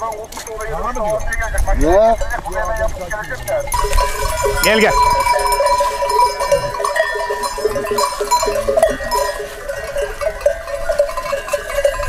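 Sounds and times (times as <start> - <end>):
sheep bells ringing: 0.0 - 12.0.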